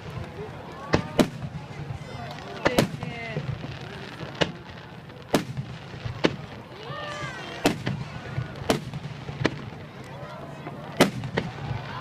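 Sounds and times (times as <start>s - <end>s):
fireworks bursting: 0.0s - 12.0s
murmur of crowd: 0.0s - 12.0s.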